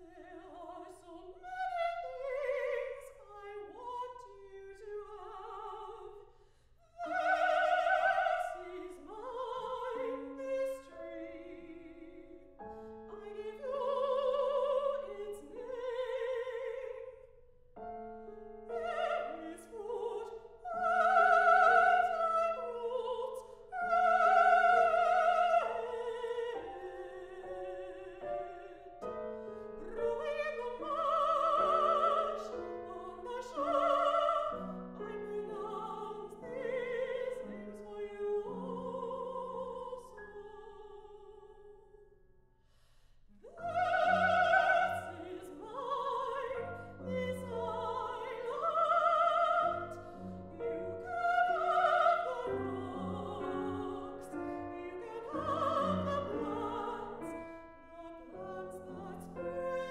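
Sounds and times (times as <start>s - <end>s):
grand piano: 0.0s - 6.3s, 6.9s - 42.3s, 43.3s - 59.9s
classical solo voice singing: 0.0s - 42.0s, 43.3s - 59.9s.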